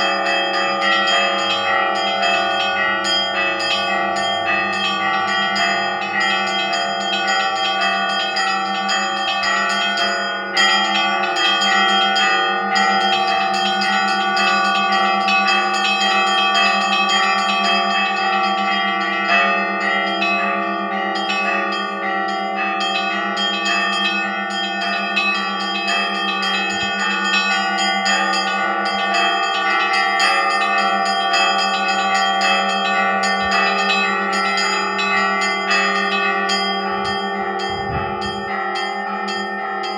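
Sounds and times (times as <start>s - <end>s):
church bells pealing: 0.0s - 39.9s
low hum of large bell: 0.0s - 39.9s.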